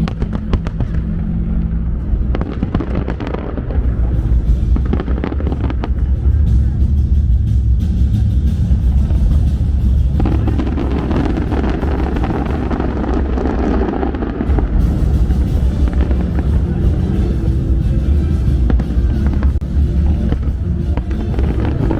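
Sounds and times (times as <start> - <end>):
fireworks bursting and crackling: 0.0 - 21.9
music with heavy bass: 0.0 - 21.9.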